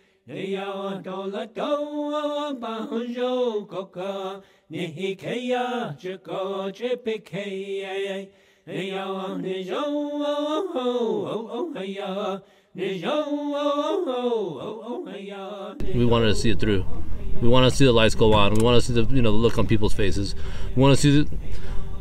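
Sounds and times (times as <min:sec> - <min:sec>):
person chanting: 0:00.3 - 0:22.0.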